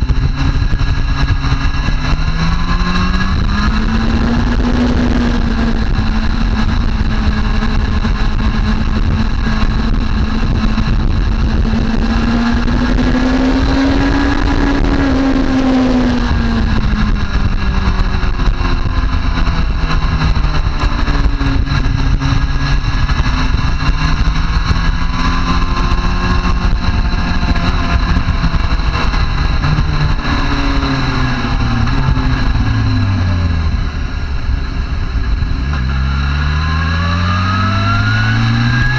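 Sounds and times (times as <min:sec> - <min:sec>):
motorcycle engine racing: 0:00.0 - 0:38.9
wind noise: 0:00.0 - 0:38.9.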